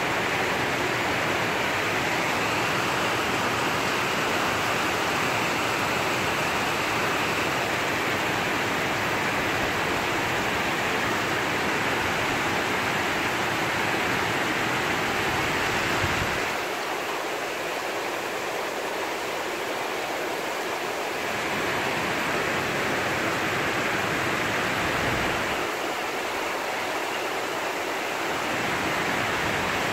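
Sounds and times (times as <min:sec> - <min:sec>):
torrential rain falling: 0:00.0 - 0:29.9.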